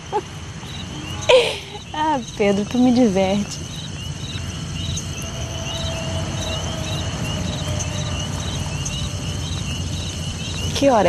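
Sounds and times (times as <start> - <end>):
crickets chirping: 0.0 - 11.0
low night ambience rumble: 0.0 - 11.0.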